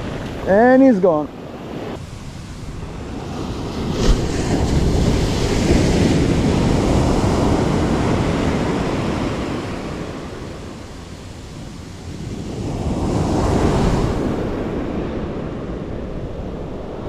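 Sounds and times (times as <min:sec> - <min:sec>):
wave breaking on beach: 0:00.0 - 0:17.0
wind buffeting microphone: 0:00.0 - 0:17.0.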